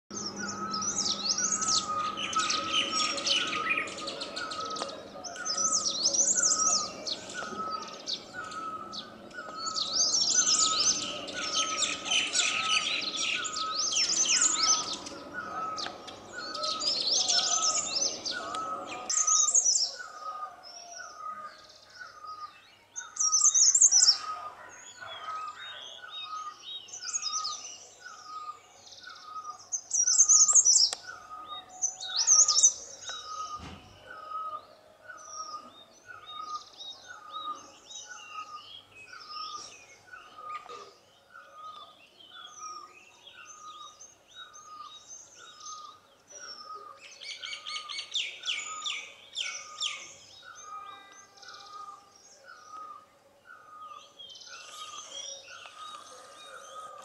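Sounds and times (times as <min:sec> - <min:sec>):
high chittering bird chatter: 0:00.1 - 0:57.0.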